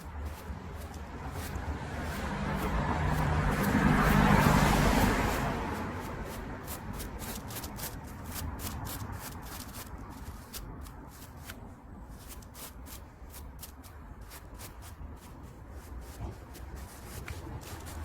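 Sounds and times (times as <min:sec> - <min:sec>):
scratchy scrubbing strokes: 0:00.0 - 0:18.0.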